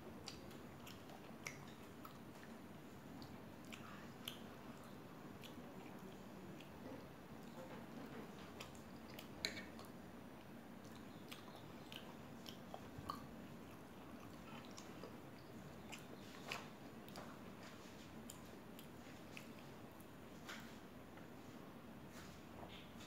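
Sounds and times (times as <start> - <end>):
chewing food: 0.1 - 21.3.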